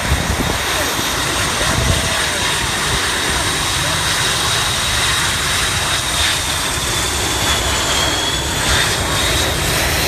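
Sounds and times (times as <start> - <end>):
high jet whine: 0.0 - 10.0
jet engines taxiing: 0.0 - 10.0.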